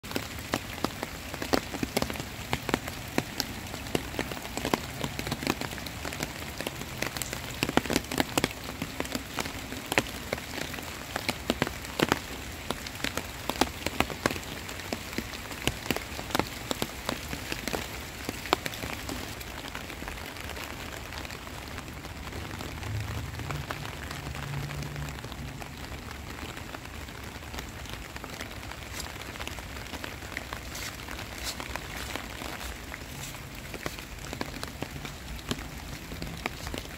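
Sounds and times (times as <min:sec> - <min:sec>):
close raindrop impacts pattering: 0:00.0 - 0:36.9
heavy rain falling: 0:00.0 - 0:36.9.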